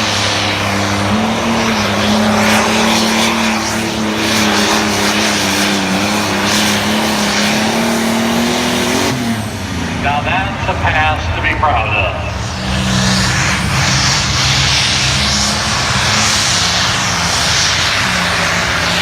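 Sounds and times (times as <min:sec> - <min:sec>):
diesel tractor engine droning: 0:00.0 - 0:19.0.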